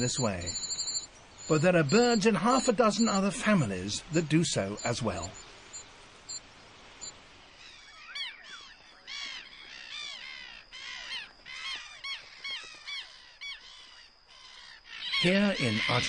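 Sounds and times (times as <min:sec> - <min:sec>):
gulls calling: 0:00.0 - 0:16.0.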